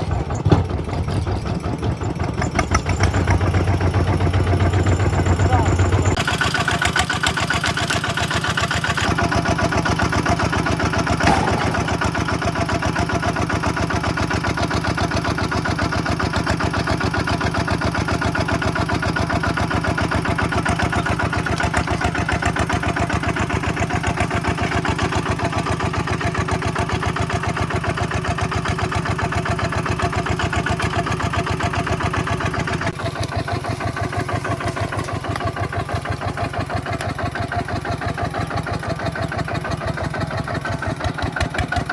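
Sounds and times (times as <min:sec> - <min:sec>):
tractor diesel engine pulsing: 0:00.0 - 0:41.9.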